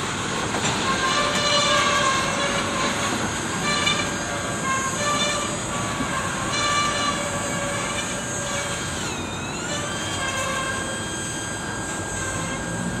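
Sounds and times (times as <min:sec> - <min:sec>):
freight train rumbling on rails: 0:00.0 - 0:11.0, 0:11.6 - 0:13.0
wheel squeal: 0:00.0 - 0:13.0.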